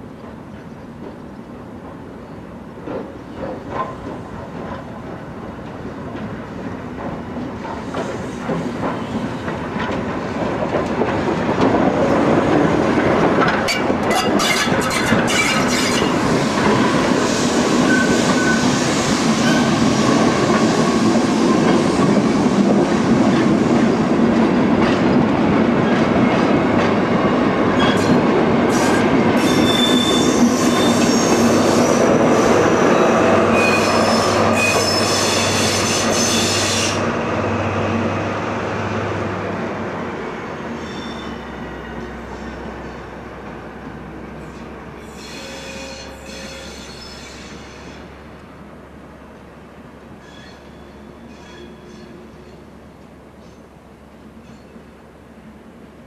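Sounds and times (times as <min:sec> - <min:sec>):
steam train rumbling: 0:00.0 - 0:55.8.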